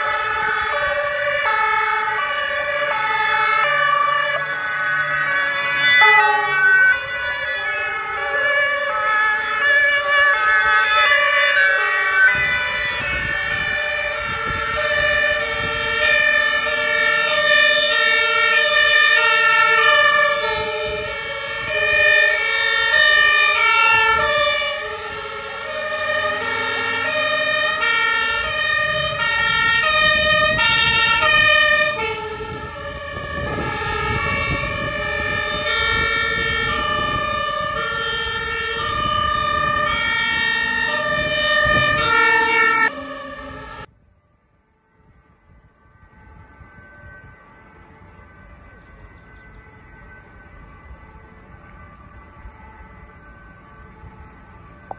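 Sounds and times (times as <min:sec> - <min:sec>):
engine and tyre noise: 0:00.0 - 0:54.9
fire engine two-tone sirens: 0:00.0 - 0:54.9.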